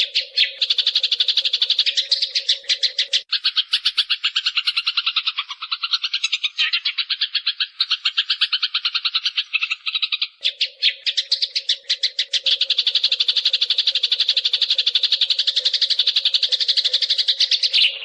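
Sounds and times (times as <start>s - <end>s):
sparrow chirping: 0.0s - 18.0s.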